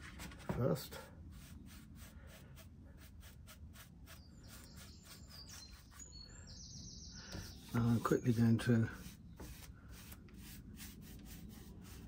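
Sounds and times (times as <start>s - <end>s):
paintbrush strokes on wood: 0.1s - 6.2s, 7.3s - 12.0s.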